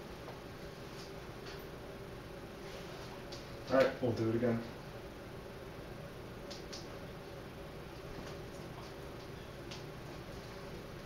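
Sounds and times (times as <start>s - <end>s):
recording hiss and hum: 0.0s - 11.0s.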